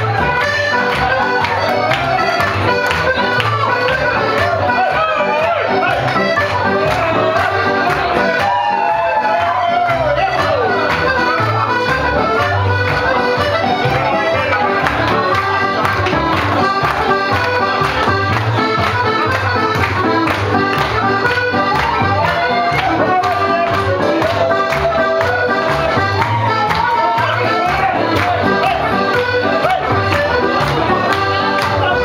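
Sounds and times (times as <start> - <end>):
folk dance band with accordion: 0.0 - 32.0.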